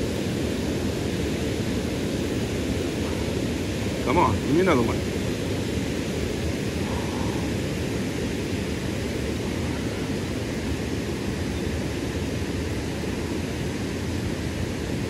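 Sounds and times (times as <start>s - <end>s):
river rushing over riffles: 0.0s - 15.0s.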